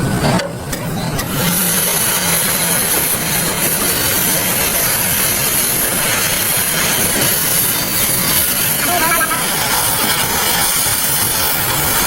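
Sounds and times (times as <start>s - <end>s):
engine running: 0.0s - 12.0s
strong hiss: 1.2s - 12.0s.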